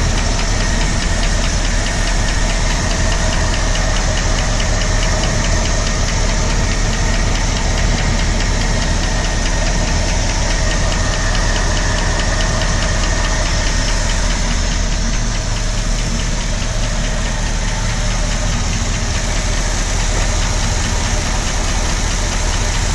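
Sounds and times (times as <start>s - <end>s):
engine running: 0.0s - 22.9s
rapid engine ticking: 0.0s - 22.9s.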